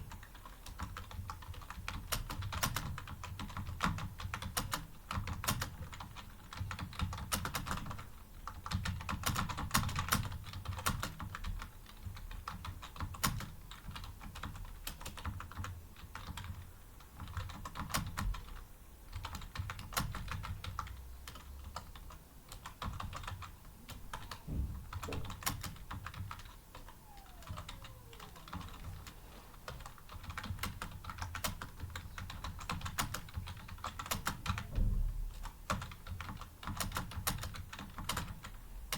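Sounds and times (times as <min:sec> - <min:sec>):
typing on computer keyboard: 0:00.0 - 0:29.1, 0:29.7 - 0:34.7, 0:35.4 - 0:38.6.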